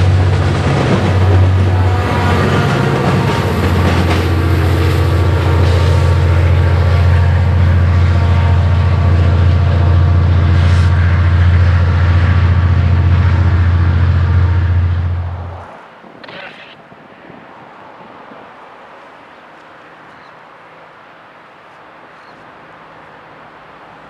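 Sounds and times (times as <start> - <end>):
diesel locomotive drone: 0.0 - 24.0.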